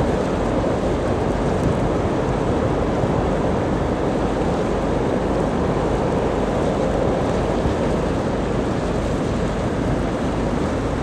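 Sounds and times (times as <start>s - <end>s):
freight train rumbling over bridge: 0.0s - 11.0s.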